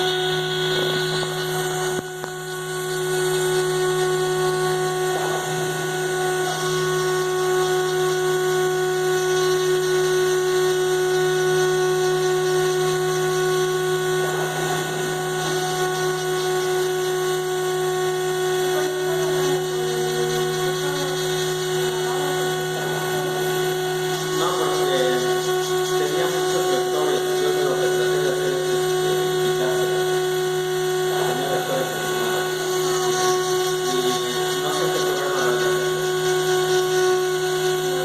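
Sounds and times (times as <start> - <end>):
cnc router spindle whine: 0.0 - 38.0.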